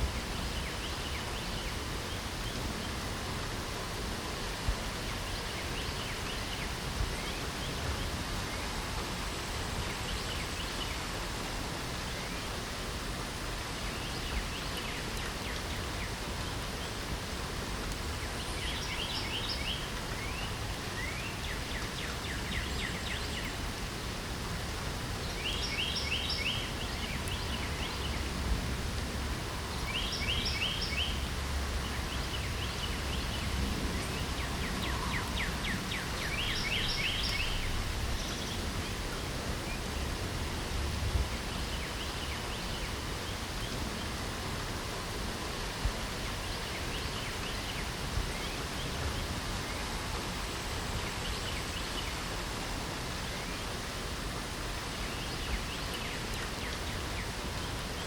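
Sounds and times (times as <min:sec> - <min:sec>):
songbirds singing: 0:00.0 - 0:11.3, 0:11.9 - 0:58.0
steady rain: 0:00.0 - 0:58.0.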